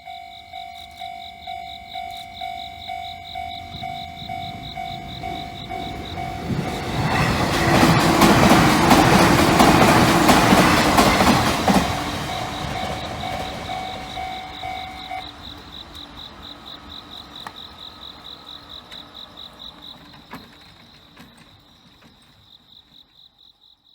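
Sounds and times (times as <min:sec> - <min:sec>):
electric train passing: 0:00.0 - 0:23.0
crickets chirping: 0:00.0 - 0:23.9.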